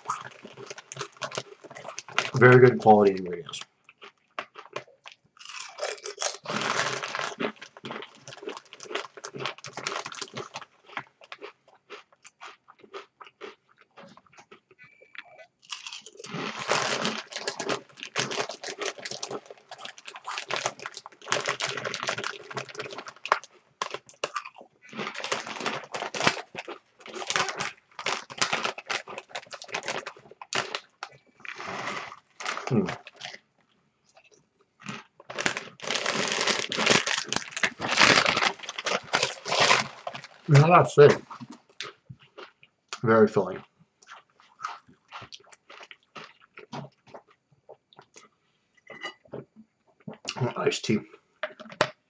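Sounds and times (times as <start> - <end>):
person crunching potato chips: 0.0 - 14.9, 15.6 - 33.4, 34.1 - 42.6, 43.6 - 47.3.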